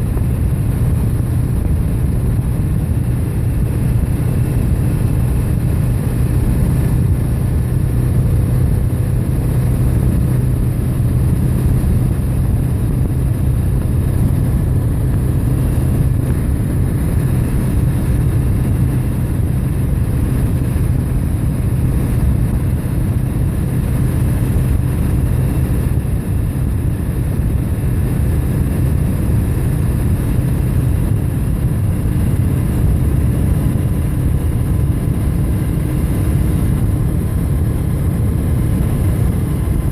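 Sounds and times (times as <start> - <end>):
motorcycle engine cruising: 0.0 - 39.9
rush of noise: 0.0 - 39.9.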